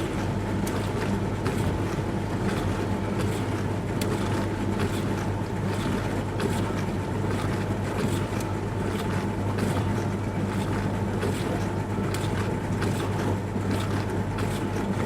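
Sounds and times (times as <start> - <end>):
dishwasher motor hum: 0.0 - 15.0.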